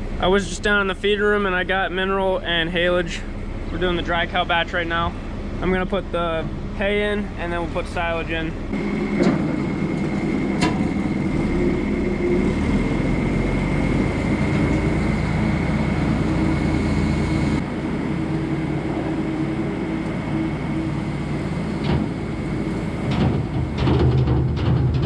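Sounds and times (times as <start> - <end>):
feed mixer augers rumbling: 0.0 - 25.0.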